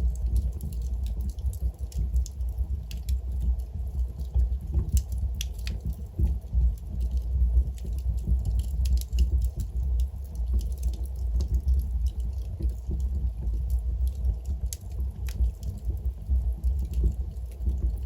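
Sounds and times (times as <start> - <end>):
low rumble of flames: 0.0 - 18.0
wood fire crackling and popping: 0.0 - 18.0.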